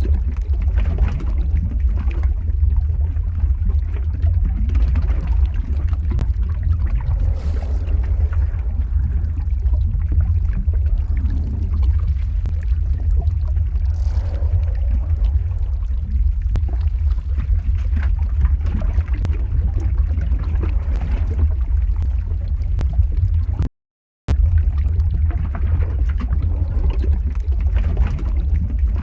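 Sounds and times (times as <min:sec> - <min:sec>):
lava deep rumble and hiss: 0:00.0 - 0:23.7, 0:24.3 - 0:29.0
small crackles and pops: 0:00.0 - 0:23.7, 0:24.3 - 0:29.0.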